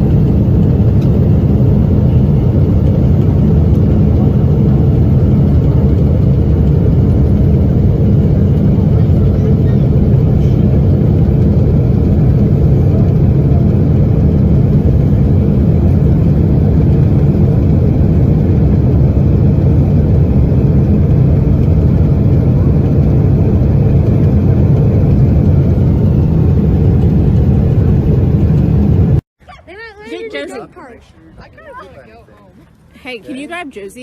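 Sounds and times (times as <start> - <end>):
airliner low roar in flight: 0.0 - 29.6.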